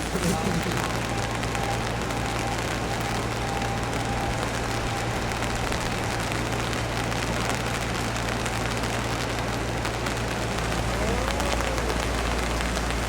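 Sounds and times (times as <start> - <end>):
low steady hum: 0.0 - 13.0
steady water noise: 0.0 - 13.0.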